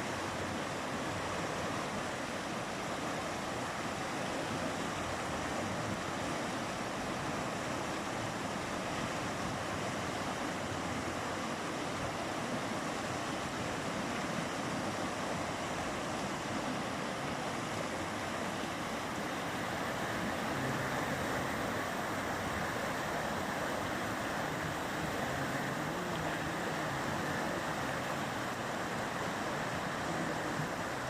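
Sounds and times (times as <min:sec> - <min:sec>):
mountain river rushing: 0:00.0 - 0:31.0.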